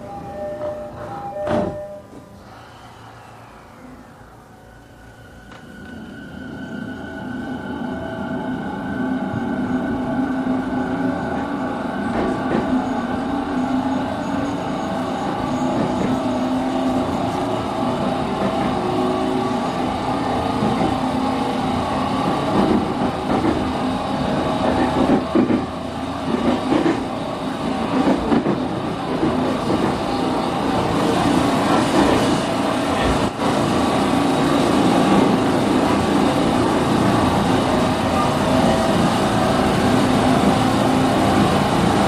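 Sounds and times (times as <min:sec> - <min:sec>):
rail and wheel noise: 0:00.0 - 0:42.0.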